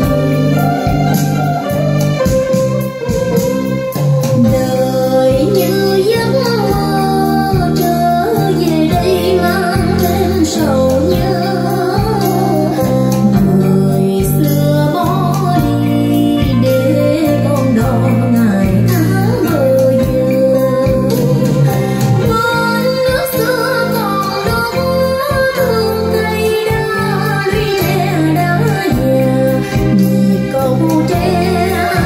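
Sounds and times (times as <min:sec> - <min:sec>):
song with steady beat over loudspeakers: 0:00.0 - 0:32.0
woman singing: 0:03.0 - 0:32.0.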